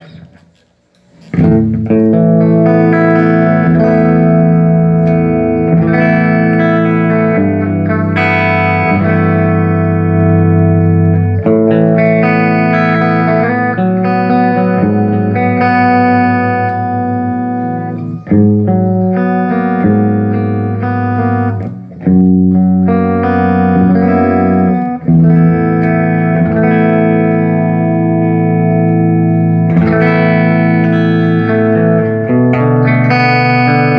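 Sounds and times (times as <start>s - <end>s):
electric guitar chords: 0.0s - 33.9s.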